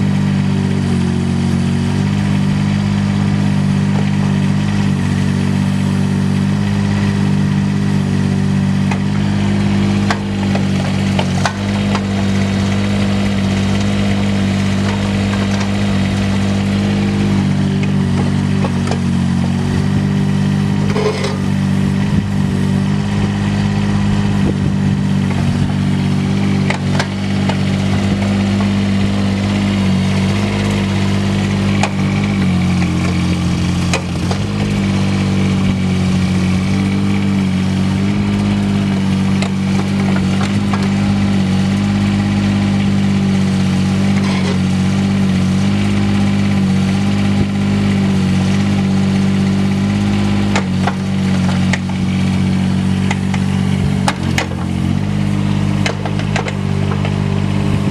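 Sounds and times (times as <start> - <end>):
diesel excavator engine running: 0.0 - 57.9.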